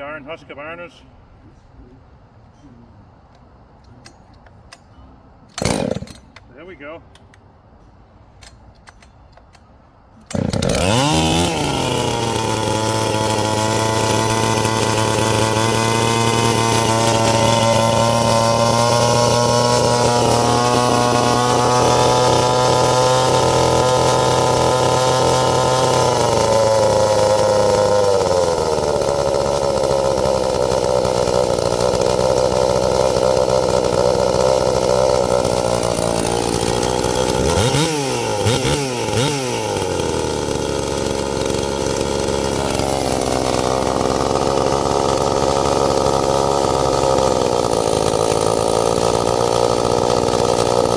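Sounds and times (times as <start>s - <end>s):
chainsaw starting and idling: 5.5s - 7.8s, 8.4s - 50.9s.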